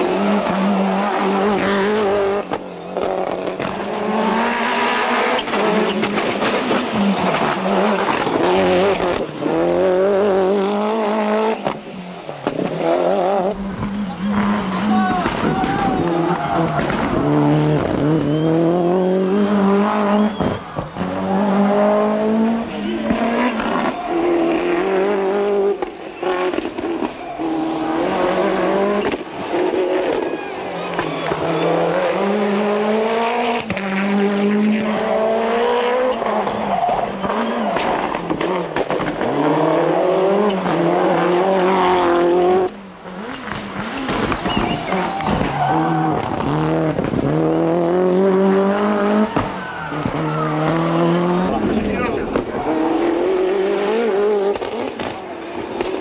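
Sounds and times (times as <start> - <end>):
rally car engine at full throttle: 0.0 - 56.0.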